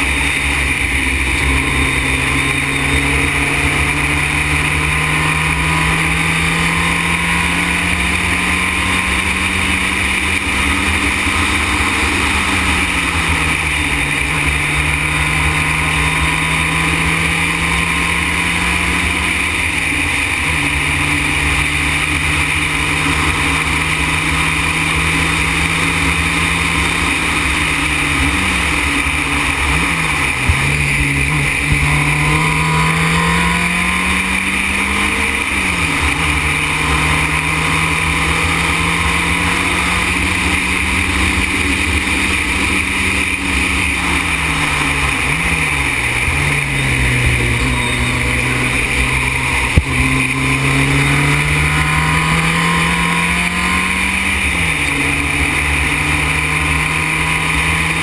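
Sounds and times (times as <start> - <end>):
racing car engine at speed: 0.0 - 58.0
wind and road noise: 0.0 - 58.0.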